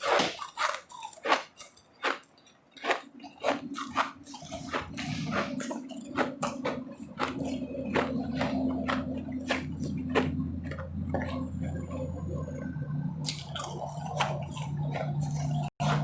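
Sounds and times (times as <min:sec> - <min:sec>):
chewing crunchy ice: 0:00.0 - 0:16.0
steady low hum: 0:03.0 - 0:16.0.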